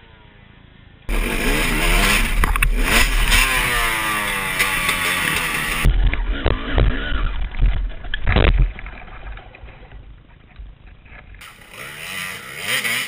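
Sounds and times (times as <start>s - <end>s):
dirt bike engine rumbling: 1.1s - 13.0s.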